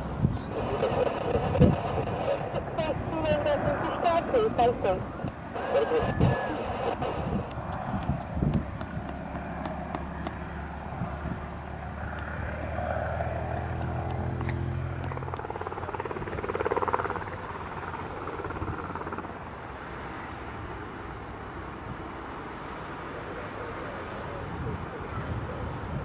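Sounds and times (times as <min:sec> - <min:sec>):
aircraft engine drone: 0:00.0 - 0:25.6.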